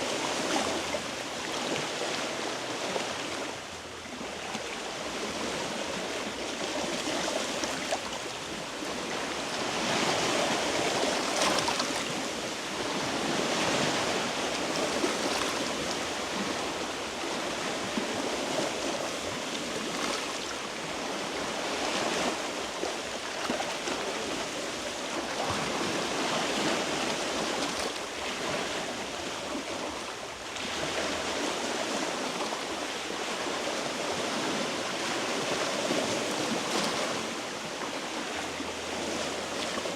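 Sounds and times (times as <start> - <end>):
sea waves on rocky shore: 0.0 - 39.9.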